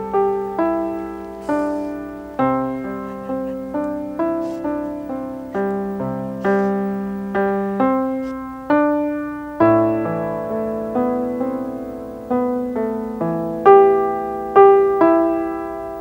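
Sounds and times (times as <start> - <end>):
slow solo piano melody: 0.0 - 16.0.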